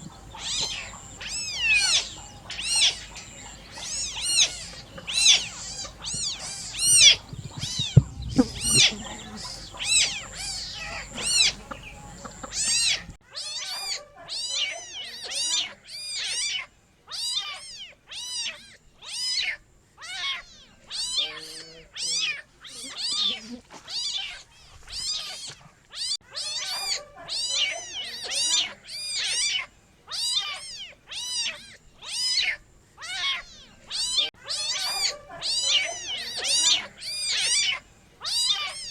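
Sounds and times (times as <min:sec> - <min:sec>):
kitten meowing: 0:00.0 - 0:38.9.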